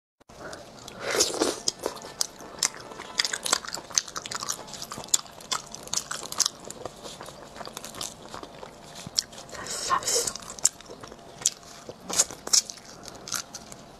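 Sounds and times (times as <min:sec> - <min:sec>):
wet chewing and smacking: 0:00.4 - 0:13.9.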